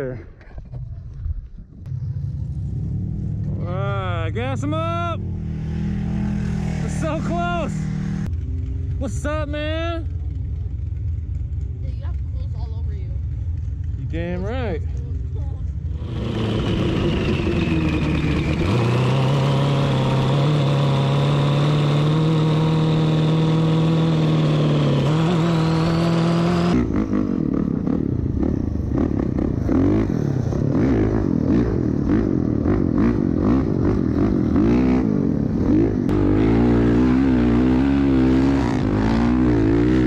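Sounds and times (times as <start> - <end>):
dirt bike engine revving: 1.9 - 10.1, 15.9 - 40.0.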